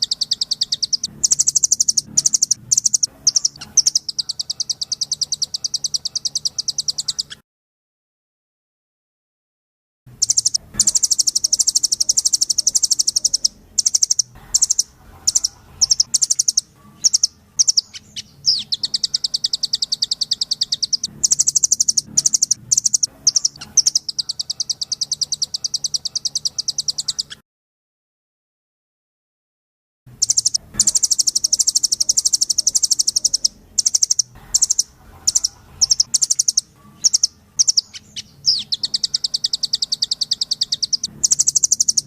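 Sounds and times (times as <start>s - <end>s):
bird singing fast trills: 0.0s - 7.4s, 10.1s - 27.4s, 30.1s - 42.0s.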